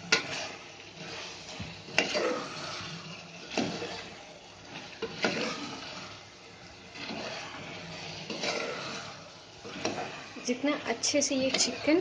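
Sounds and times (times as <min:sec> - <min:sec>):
masala frying in oil: 0:00.0 - 0:12.0
spoon scraping metal pot: 0:00.0 - 0:12.0.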